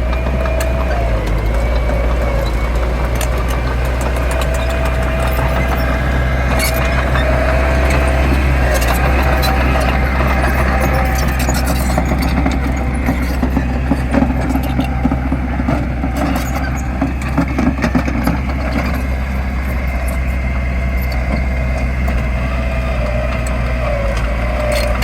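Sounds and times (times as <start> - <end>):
clanks and knocks: 0.0 - 22.5
diesel engine running: 0.0 - 25.0.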